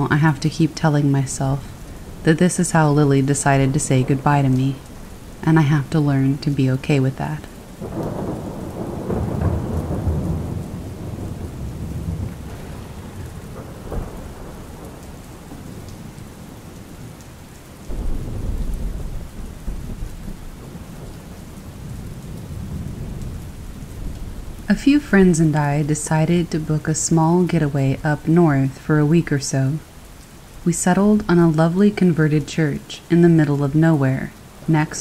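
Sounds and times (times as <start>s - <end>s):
thunder rolling: 0.0s - 17.2s, 17.9s - 29.0s
steady rain: 0.0s - 35.0s.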